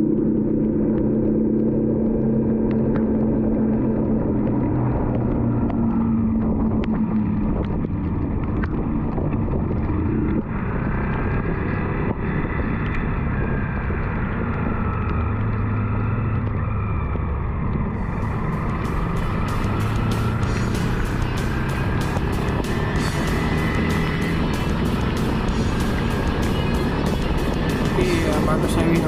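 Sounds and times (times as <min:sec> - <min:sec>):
motorcycle engine running: 0:00.0 - 0:29.0
raindrops ticking on camera: 0:00.0 - 0:29.0
wind and wet tyres hissing: 0:03.1 - 0:29.0.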